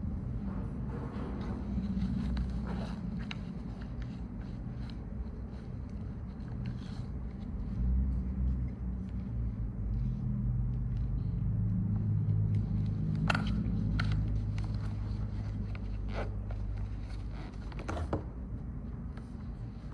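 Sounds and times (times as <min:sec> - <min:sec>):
engine running with low rumble: 0:00.0 - 0:19.9.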